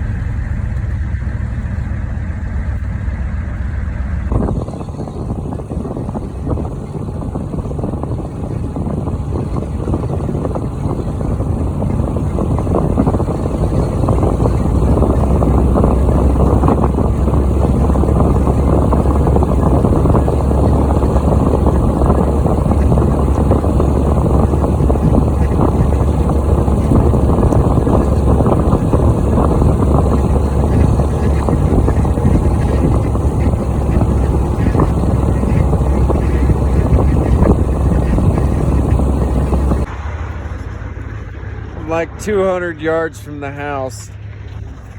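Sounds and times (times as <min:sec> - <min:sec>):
vehicle engine rumbling: 0:00.0 - 0:44.9
wind noise: 0:04.2 - 0:44.9.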